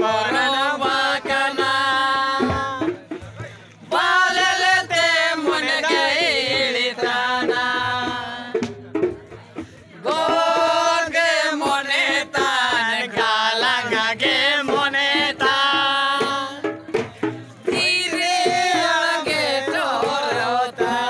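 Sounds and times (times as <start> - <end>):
man singing: 0.0 - 8.6, 10.0 - 17.0, 17.7 - 21.0
music: 0.0 - 21.0.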